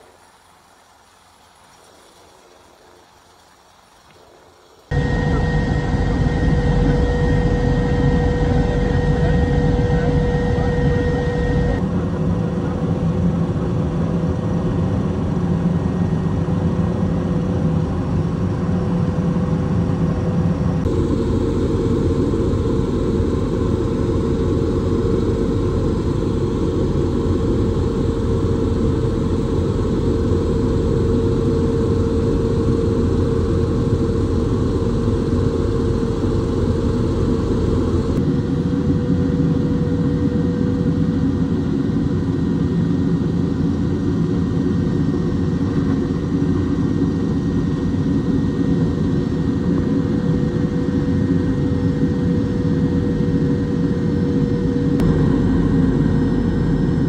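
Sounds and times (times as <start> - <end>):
helicopter engine and rotor drone: 4.9 - 57.0
high whine: 4.9 - 57.0.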